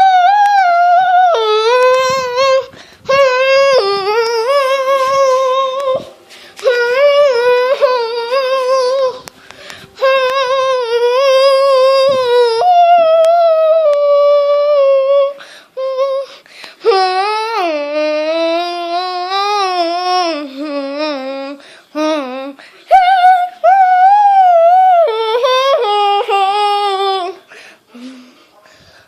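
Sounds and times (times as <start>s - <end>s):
high-pitched wordless singing: 0.0s - 9.3s, 10.0s - 27.4s.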